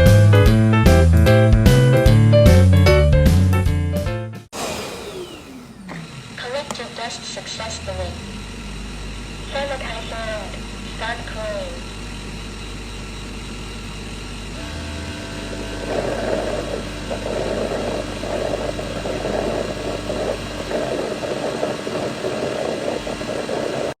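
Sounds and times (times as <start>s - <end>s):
robot vacuum cleaner running: 4.5s - 24.0s.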